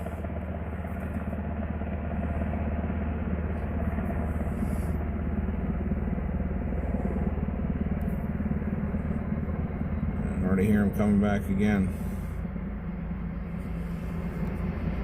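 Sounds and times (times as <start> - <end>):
engine rumble throbbing: 0.0 - 15.0.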